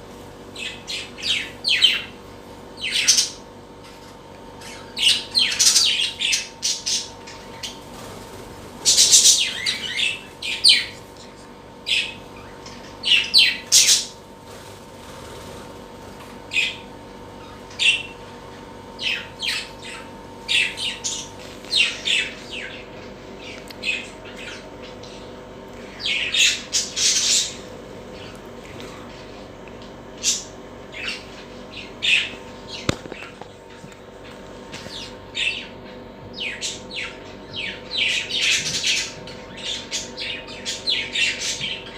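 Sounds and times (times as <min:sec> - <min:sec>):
pet birds squawking and chirping: 0:00.5 - 0:29.4, 0:30.0 - 0:41.9.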